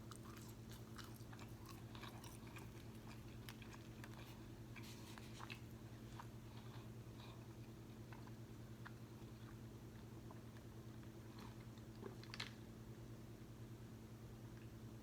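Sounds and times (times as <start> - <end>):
chewing crispy food: 0.0 - 12.7
steady low hum: 0.0 - 15.0.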